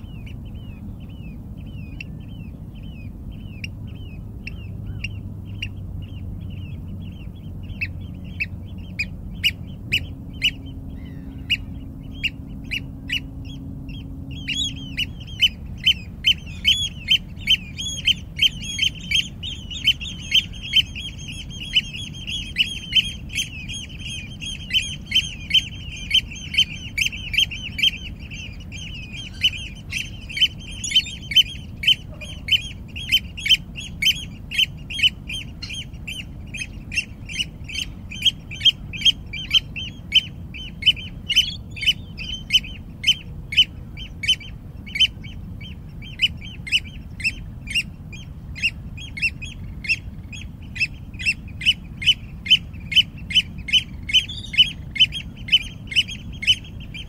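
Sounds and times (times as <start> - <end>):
bird squawking: 0.0 - 57.0
low background rumble: 0.0 - 57.0.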